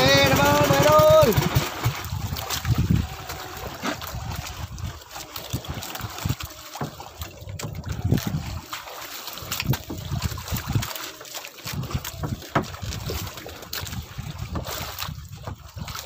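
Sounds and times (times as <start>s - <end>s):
wind buffeting microphone: 0.0s - 8.7s, 9.4s - 11.0s, 11.6s - 16.0s
sharp knocks and splashes: 0.0s - 16.0s
water sloshing around boat: 0.0s - 16.0s.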